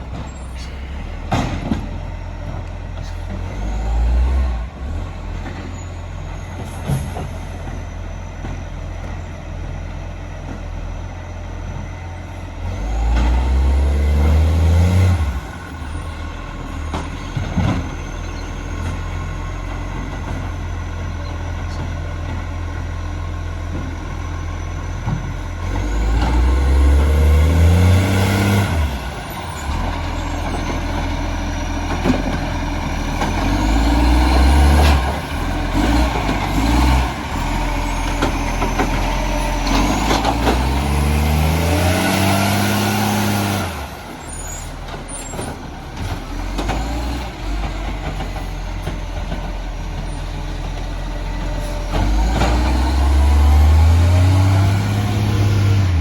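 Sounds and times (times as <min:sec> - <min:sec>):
diesel truck engine revving: 0:00.0 - 0:56.0.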